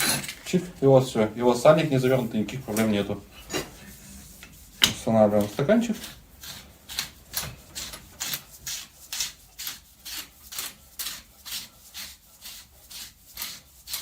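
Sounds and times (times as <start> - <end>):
rhythmic rasping scrapes: 1.2 - 14.0.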